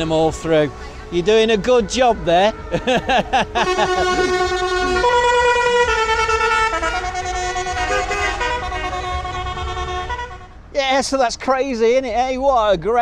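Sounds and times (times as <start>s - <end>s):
musical horn playing a tune: 0.0s - 10.6s
low rumble of traffic: 0.0s - 13.0s.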